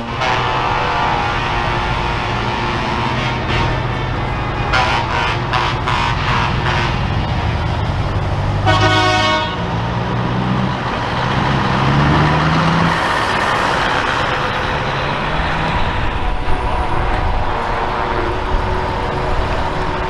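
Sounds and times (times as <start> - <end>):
rushing noise: 0.0 - 20.0
truck engine revving: 0.0 - 20.0
truck horn blast: 0.0 - 20.0
trucks driving past: 0.0 - 20.0.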